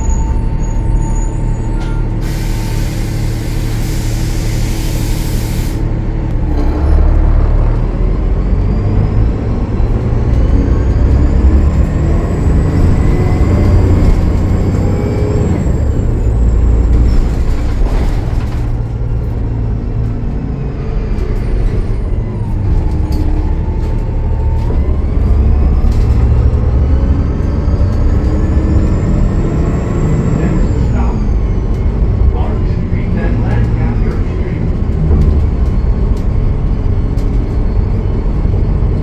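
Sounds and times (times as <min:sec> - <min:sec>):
deep diesel engine rumble: 0:00.0 - 0:39.0.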